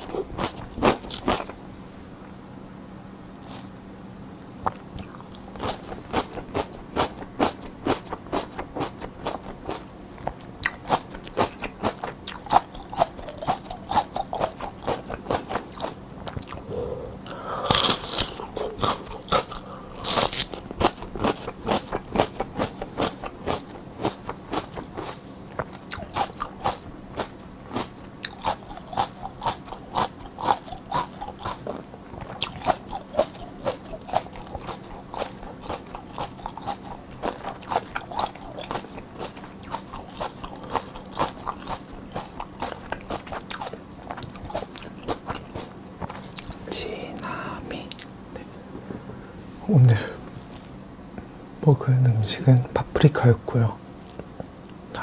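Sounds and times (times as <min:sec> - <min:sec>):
crunchy chewing of peppers: 0:00.0 - 0:01.7, 0:03.2 - 0:51.8, 0:52.5 - 0:55.0.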